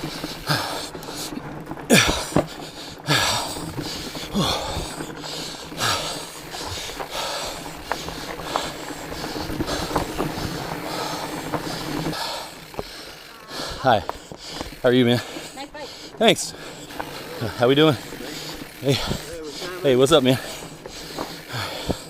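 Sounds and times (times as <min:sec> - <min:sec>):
bike rattles: 0:00.0 - 0:22.0
rider breathing hard: 0:00.0 - 0:22.0.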